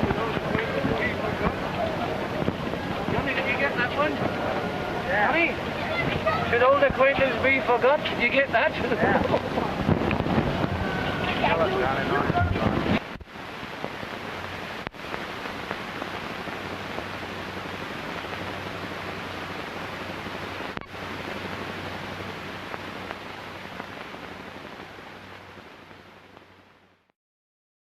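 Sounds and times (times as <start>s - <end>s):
film soundtrack hiss: 0.0s - 27.1s.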